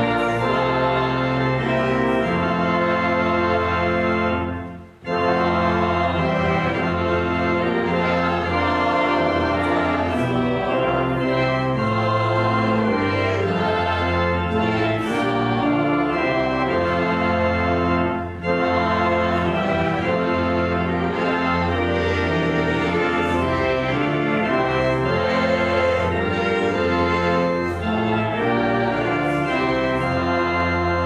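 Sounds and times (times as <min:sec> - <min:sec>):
organ playing chords: 0:00.0 - 0:31.0.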